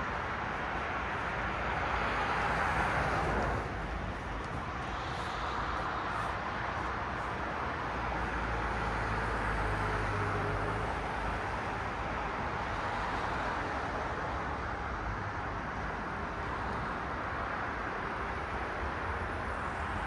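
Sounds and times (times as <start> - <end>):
cars passing on a street: 0.0 - 20.0.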